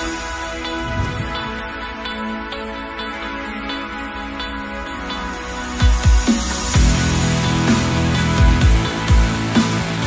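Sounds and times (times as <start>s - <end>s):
sustained chords over light beat: 0.0s - 10.0s.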